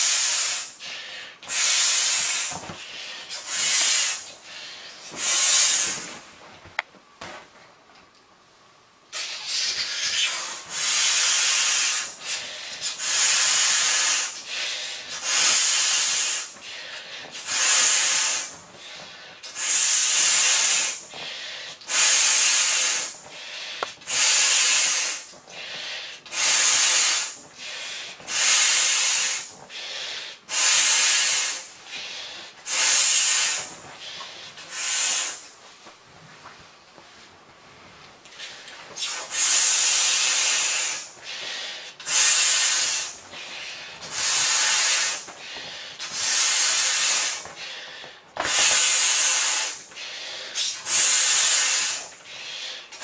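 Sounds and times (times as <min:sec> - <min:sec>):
breath blown into beach ball: 0:00.0 - 0:06.2, 0:09.1 - 0:35.5, 0:38.4 - 0:52.9.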